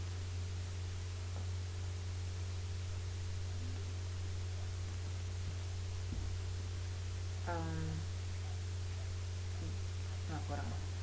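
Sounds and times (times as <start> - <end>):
microphone hiss and low hum: 0.0 - 11.0.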